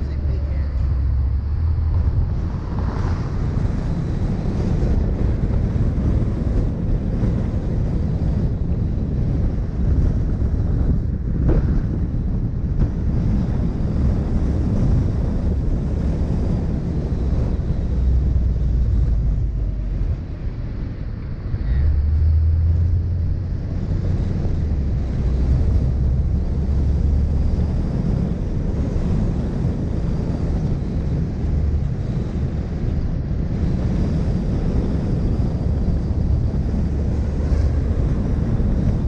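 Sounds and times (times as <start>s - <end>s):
car engine droning: 0.0s - 39.0s
wind buffeting microphone: 0.0s - 39.0s.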